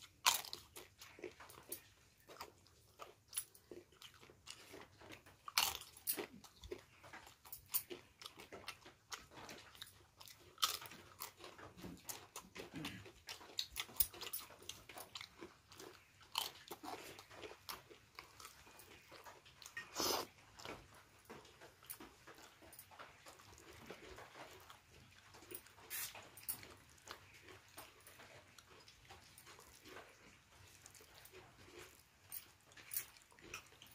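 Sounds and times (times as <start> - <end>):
crisp food crunching: 0.0 - 33.9
person chewing and biting: 0.0 - 33.9.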